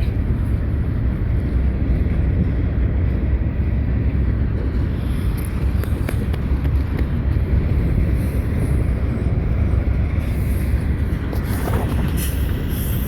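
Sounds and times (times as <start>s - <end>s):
train wheels rumbling on rail: 0.0s - 13.0s
wind buffeting microphone: 0.0s - 13.0s.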